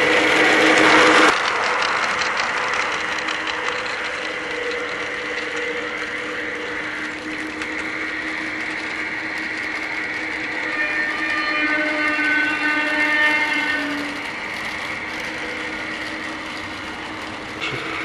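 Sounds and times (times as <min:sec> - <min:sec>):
model train drive whirring: 0:00.0 - 0:18.0.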